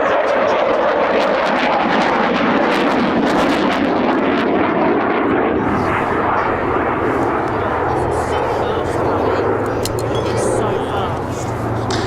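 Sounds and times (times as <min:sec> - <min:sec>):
jet fighter engines roaring: 0:00.0 - 0:12.0.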